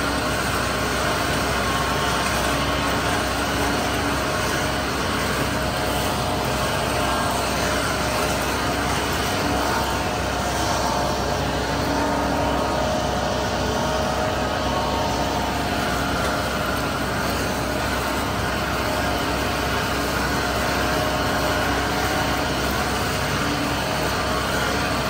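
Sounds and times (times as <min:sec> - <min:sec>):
tractor and mower droning: 0:00.0 - 0:25.0.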